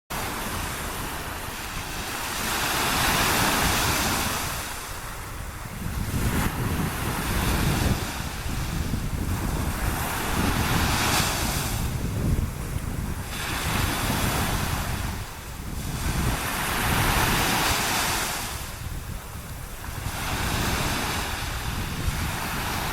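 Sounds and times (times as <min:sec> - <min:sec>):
small waves breaking on beach: 0:00.1 - 0:22.9
wind buffeting microphone: 0:00.1 - 0:22.9.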